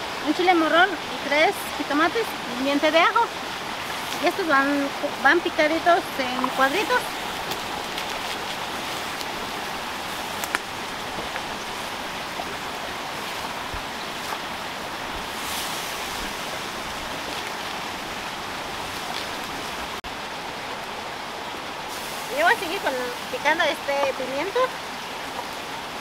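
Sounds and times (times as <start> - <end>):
flowing water: 0.0 - 26.0.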